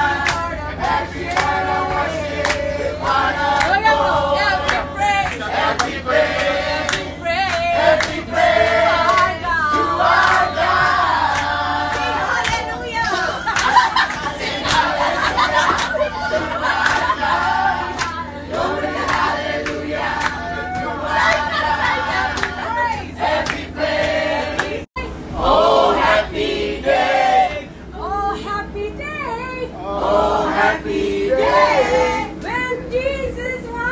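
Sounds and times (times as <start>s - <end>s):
group of people singing: 0.0s - 27.7s, 29.7s - 32.6s
bus engine rumble: 0.0s - 33.9s.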